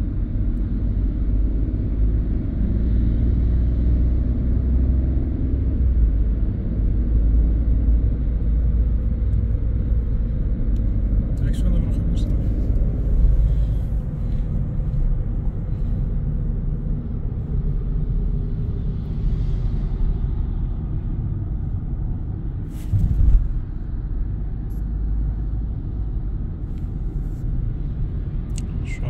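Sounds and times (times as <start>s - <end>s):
road and tyre rumble in car: 0.0s - 29.0s.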